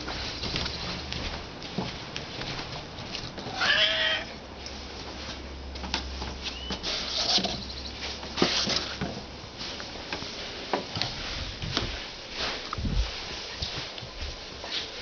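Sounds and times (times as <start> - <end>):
footsteps on wooden boards: 0.0 - 3.7, 4.4 - 15.0.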